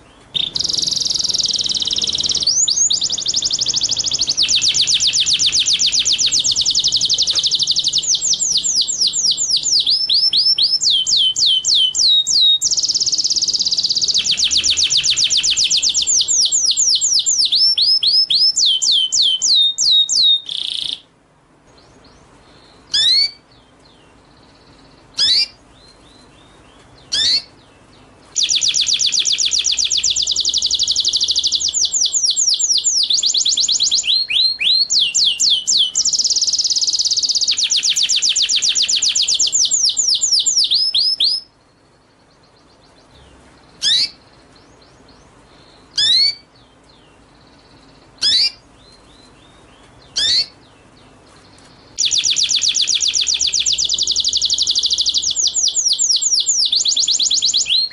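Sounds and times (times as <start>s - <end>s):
songbird trilling: 0.0s - 21.1s, 21.7s - 57.9s
sharp bird calls: 0.0s - 57.9s.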